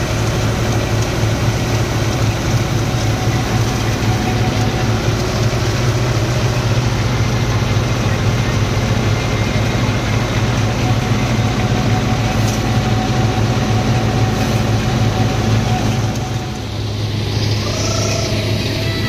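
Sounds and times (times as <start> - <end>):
thresher mechanical drone: 0.0 - 19.0.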